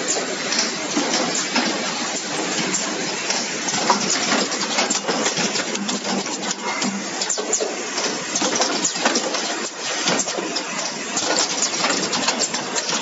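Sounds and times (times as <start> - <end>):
machinery hissing and clattering: 0.0 - 13.0.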